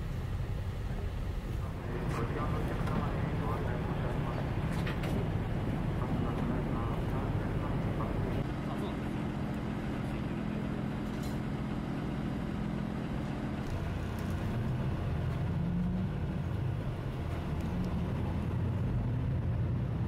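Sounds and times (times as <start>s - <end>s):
bus engine idling and pulling away: 0.0s - 20.0s.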